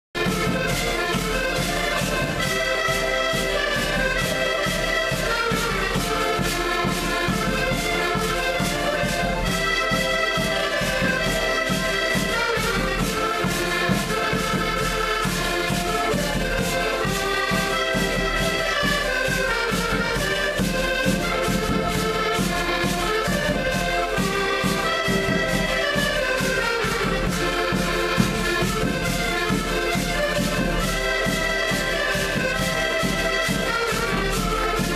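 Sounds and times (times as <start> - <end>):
button accordions playing chords: 0.2 - 34.9.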